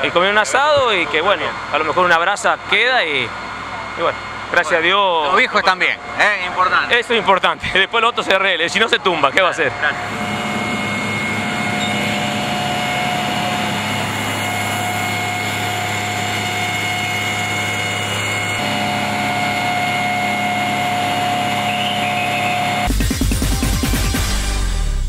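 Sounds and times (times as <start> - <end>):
fire engine motor humming: 0.0 - 23.0.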